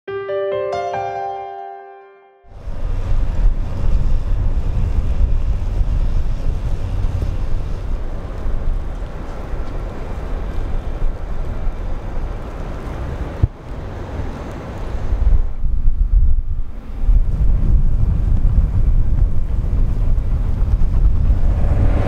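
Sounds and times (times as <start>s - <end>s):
wind buffeting microphone: 2.5s - 22.0s.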